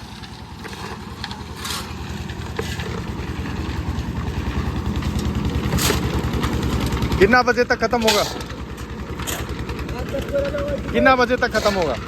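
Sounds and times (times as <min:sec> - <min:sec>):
engine running with low throb: 0:00.0 - 0:12.0.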